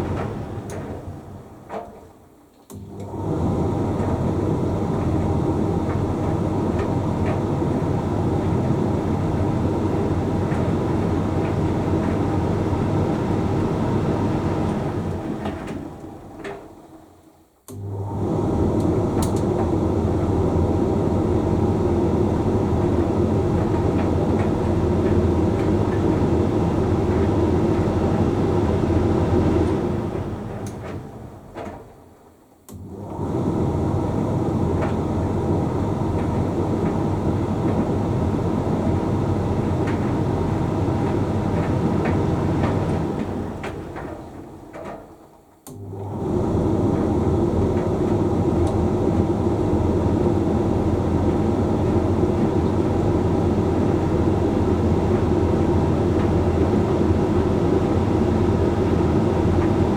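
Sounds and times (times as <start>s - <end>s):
tumble dryer running: 0.0s - 2.1s, 2.7s - 16.9s, 17.7s - 32.1s, 32.7s - 59.9s.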